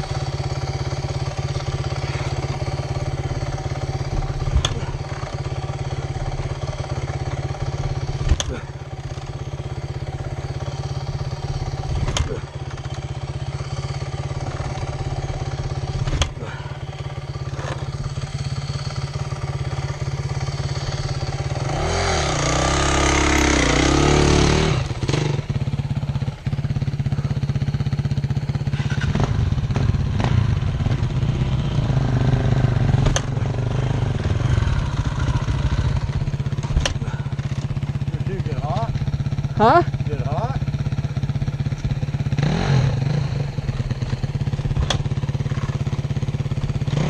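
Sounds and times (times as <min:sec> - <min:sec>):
dirt bike engine revving: 0:00.0 - 0:25.8, 0:28.7 - 0:47.0.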